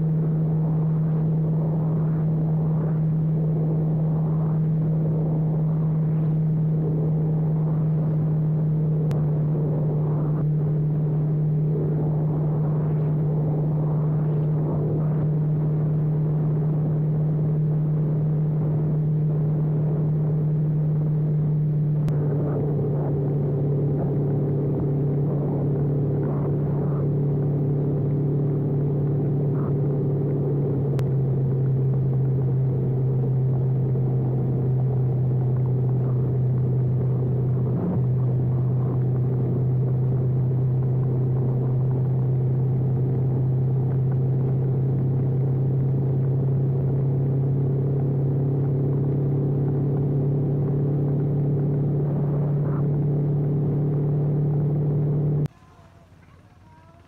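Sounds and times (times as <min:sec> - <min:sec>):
wind noise: 0:00.0 - 0:54.0
motorcycle engine droning: 0:00.0 - 0:57.0.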